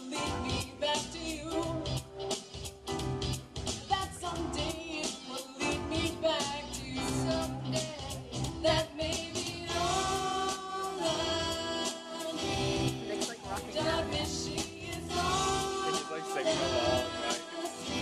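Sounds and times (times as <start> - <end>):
women singing pop song: 0.0 - 2.0, 3.8 - 18.0
backing music with steady beat: 0.0 - 18.0.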